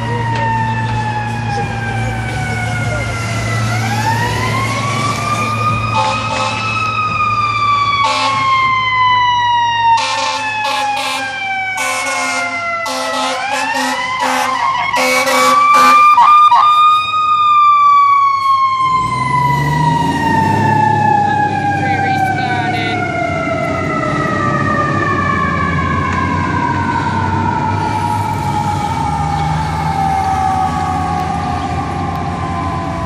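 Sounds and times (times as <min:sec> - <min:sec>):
diesel engine rumbling: 0:00.0 - 0:33.0
fire engine siren wailing: 0:00.0 - 0:33.0.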